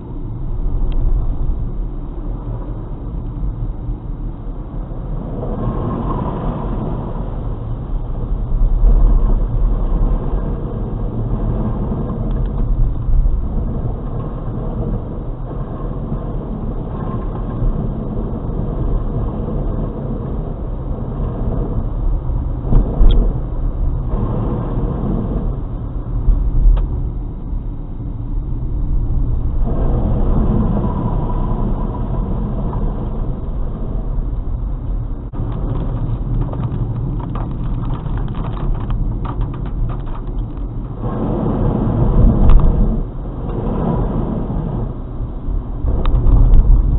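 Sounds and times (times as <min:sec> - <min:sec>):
tyres on wet road: 0:00.0 - 0:27.7, 0:28.4 - 0:46.9
car engine rumble: 0:00.0 - 0:46.9.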